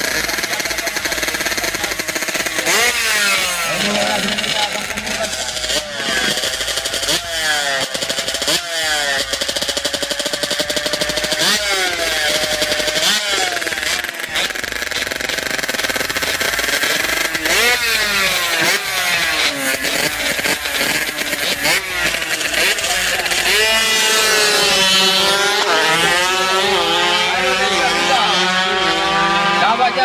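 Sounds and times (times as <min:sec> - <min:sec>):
two-stroke engines revving: 0:00.0 - 0:30.0.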